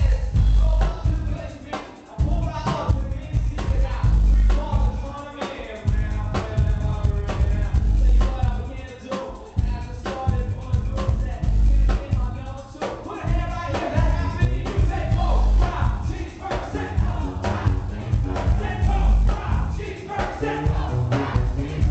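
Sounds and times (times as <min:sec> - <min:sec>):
heavy bass and drum beat: 0:00.0 - 0:21.9
rapping on microphone: 0:00.0 - 0:21.9.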